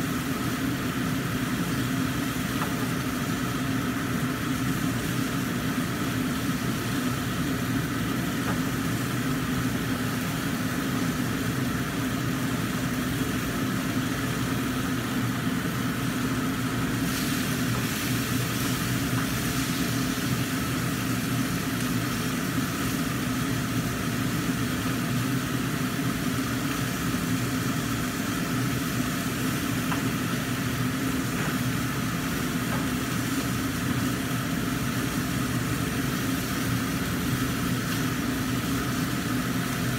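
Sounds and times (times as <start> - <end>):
range hood fan humming: 0.0 - 39.9.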